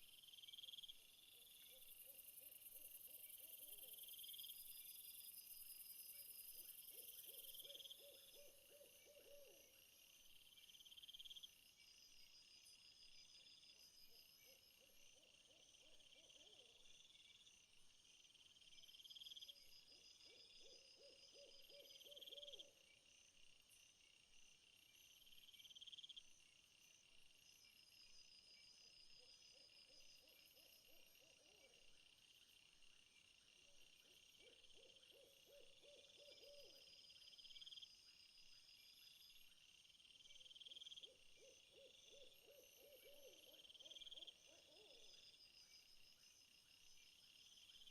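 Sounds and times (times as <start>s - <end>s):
crickets and insects chirping: 0.0s - 47.9s.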